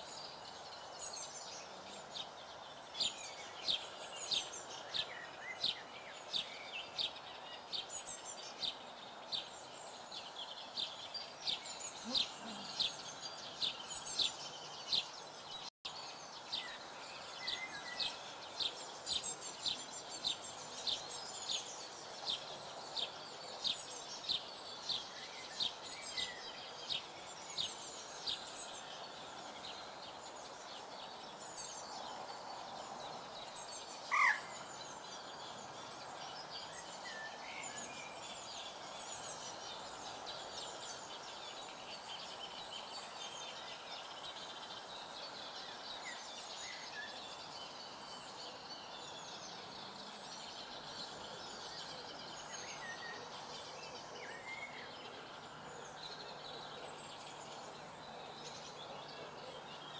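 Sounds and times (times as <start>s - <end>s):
small birds chirping: 0.0s - 59.9s
steady background hiss: 0.0s - 59.9s.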